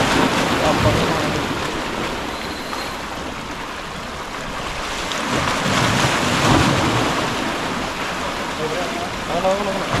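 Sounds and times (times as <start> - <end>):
sea waves washing on shore: 0.0 - 10.0.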